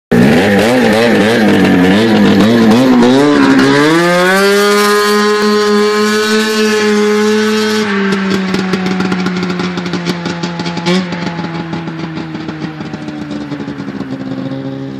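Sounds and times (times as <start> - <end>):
golf cart engine driving past: 0.2 - 14.9.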